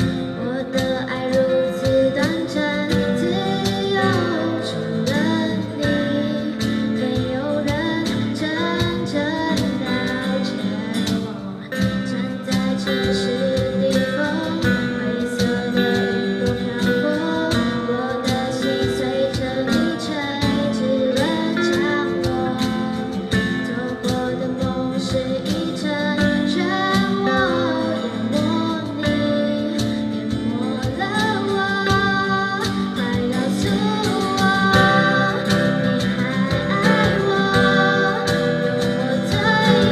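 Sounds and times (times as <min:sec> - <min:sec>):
live band music: 0:00.0 - 0:39.9.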